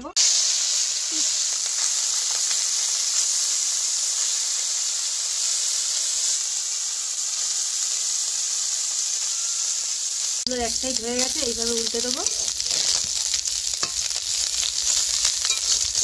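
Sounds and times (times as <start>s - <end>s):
oil sizzling with frying fish: 0.0s - 16.0s.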